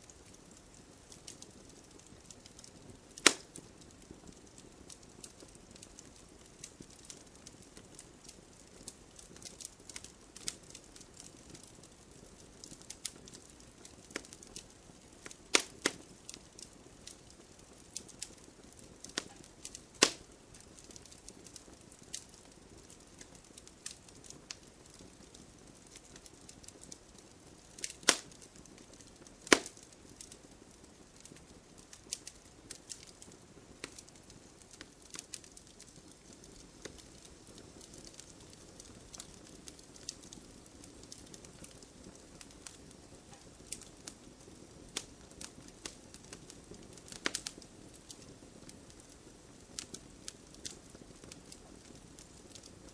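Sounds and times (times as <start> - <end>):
faint steady hiss: 0.0 - 52.9
wood fire crackling and popping: 0.0 - 52.9.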